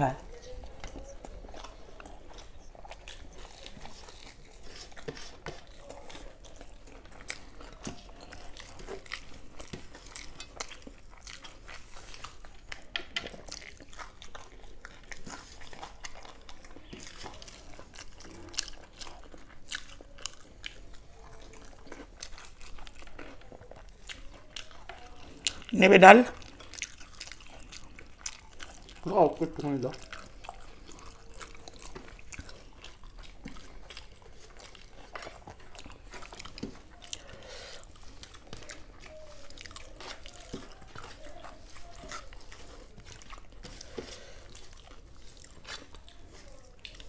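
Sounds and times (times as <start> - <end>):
chewing crunchy food: 0.0 - 47.0.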